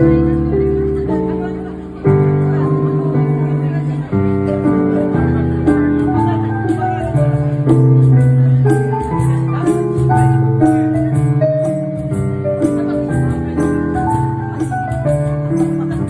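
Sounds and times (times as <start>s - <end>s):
electronic keyboard piano chords: 0.0s - 16.0s.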